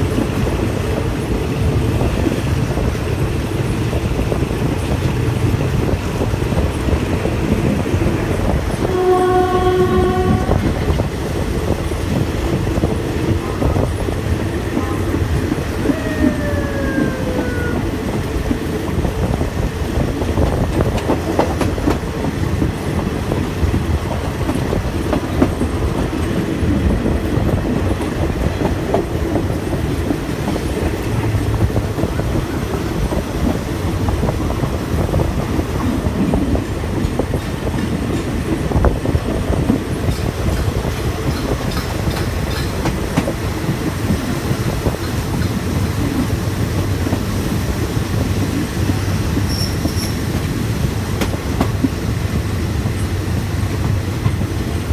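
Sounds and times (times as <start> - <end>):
train rumbling: 0.0 - 54.9
train wheels clacking over rail joints: 0.0 - 54.9.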